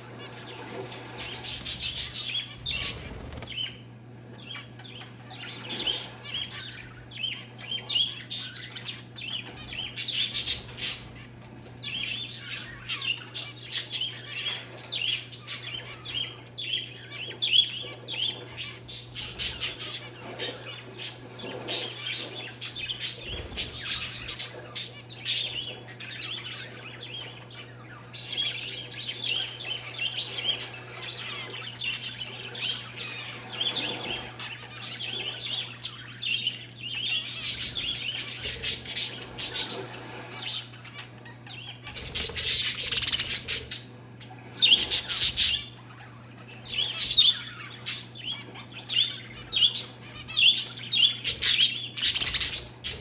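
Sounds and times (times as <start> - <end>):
birds chirping: 0.0 - 53.0
steady low hum: 0.0 - 53.0.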